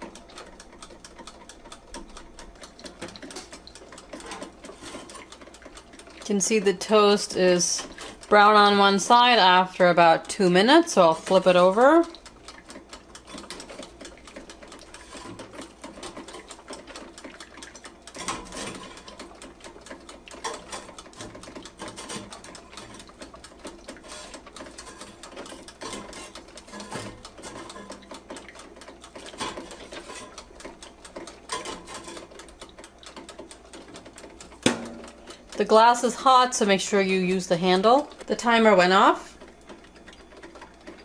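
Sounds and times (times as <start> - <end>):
dial timer ticking rapidly: 0.0 - 41.0.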